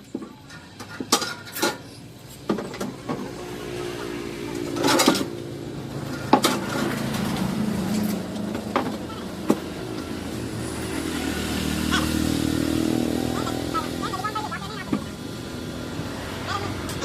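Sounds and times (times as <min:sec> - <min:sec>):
engine running: 0:00.7 - 0:17.0.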